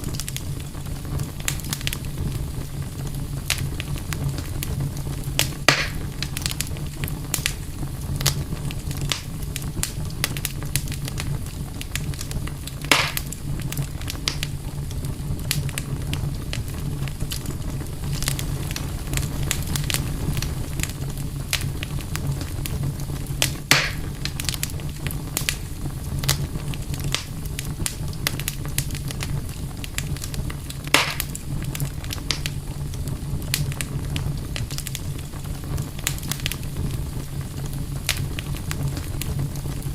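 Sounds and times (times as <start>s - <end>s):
campfire crackling: 0.0s - 39.9s
loud fire pops: 0.0s - 39.9s.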